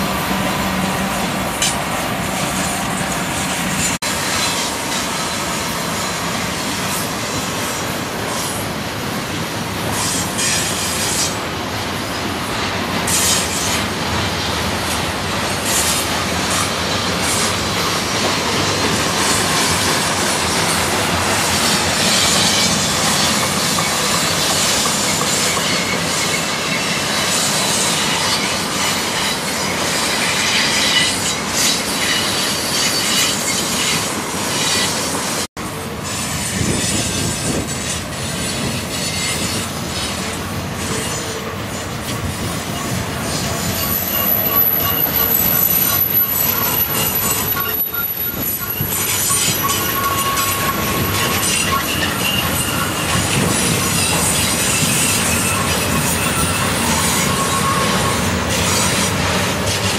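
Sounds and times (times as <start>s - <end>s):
train wheels rumbling on rail: 0.0s - 59.9s
high wheel squeal: 9.8s - 11.5s, 12.2s - 59.9s.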